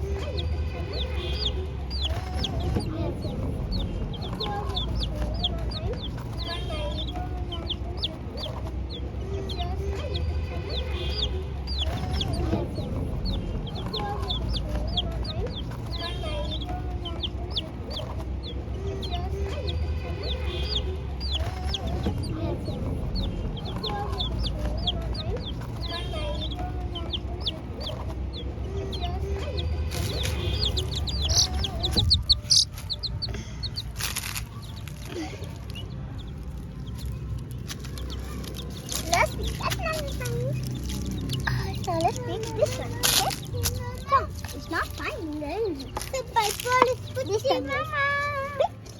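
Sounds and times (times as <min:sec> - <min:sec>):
chicks peeping: 0:00.0 - 0:48.1.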